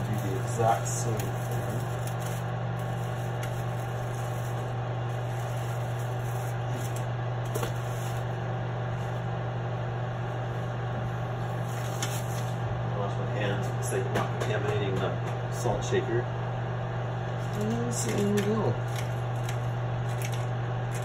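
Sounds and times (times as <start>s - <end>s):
exhaust fan humming: 0.0s - 21.0s.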